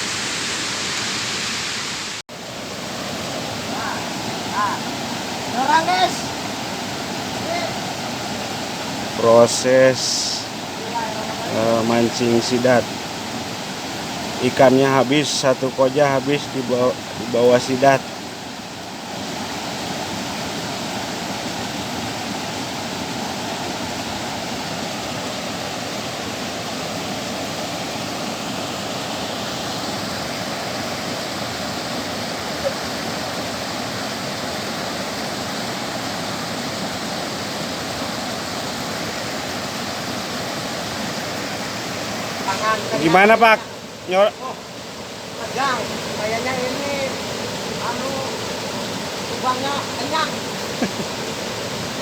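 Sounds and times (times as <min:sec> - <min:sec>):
water flowing over a dam: 0:00.0 - 0:52.0.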